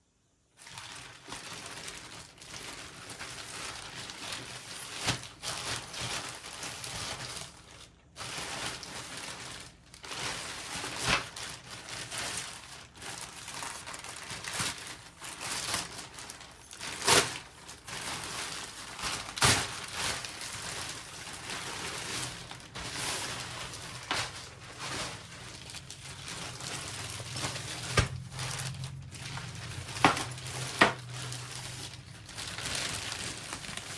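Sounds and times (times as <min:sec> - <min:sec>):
plastic packaging crinkling: 0:00.6 - 0:33.9.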